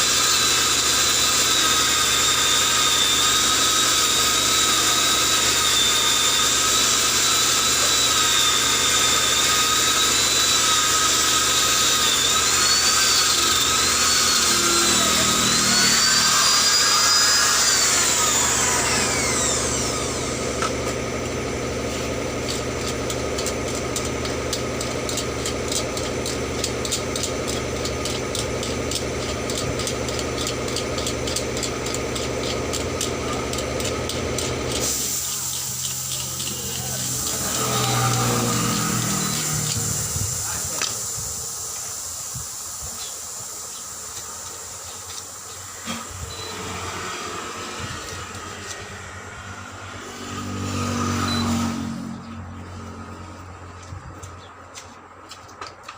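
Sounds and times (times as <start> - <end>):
power tool high whine: 0.0 - 53.9.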